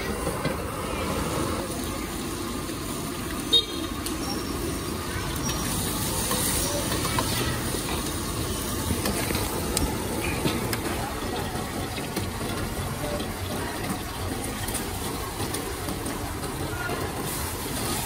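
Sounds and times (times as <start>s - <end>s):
wok station roar and hiss: 0.0s - 18.0s.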